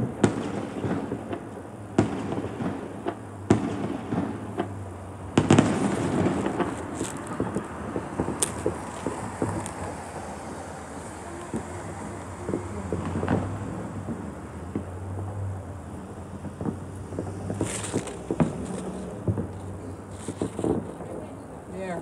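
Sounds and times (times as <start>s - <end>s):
fireworks banging: 0.0s - 22.0s
fireworks popping: 0.0s - 22.0s.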